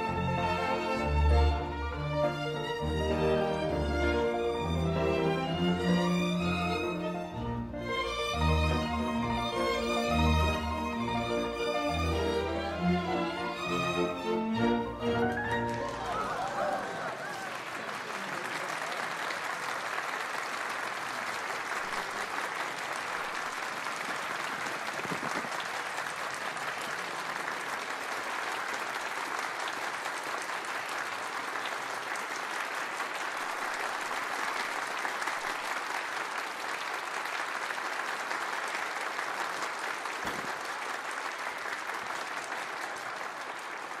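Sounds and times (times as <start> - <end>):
crowd applauding: 0.0 - 44.0.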